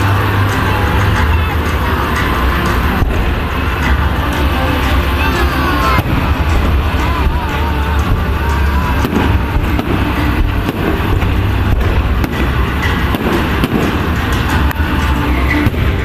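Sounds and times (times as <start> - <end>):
firecrackers banging: 0.0 - 16.0
low rumble: 0.0 - 16.0.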